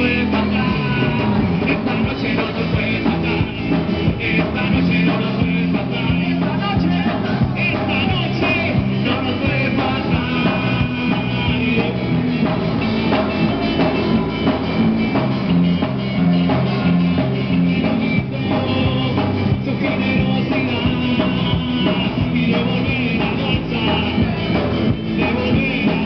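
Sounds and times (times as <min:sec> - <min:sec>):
electric bass: 0:00.0 - 0:26.0
electric guitar: 0:00.0 - 0:26.0
keyboard: 0:00.0 - 0:26.0
steady drum beat: 0:00.0 - 0:26.0.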